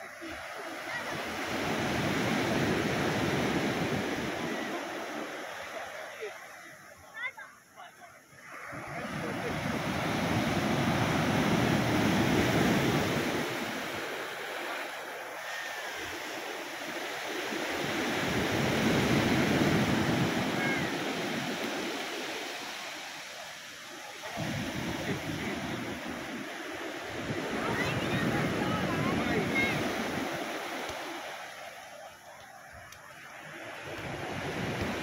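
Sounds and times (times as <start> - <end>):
sea waves breaking on beach: 0.0 - 35.0.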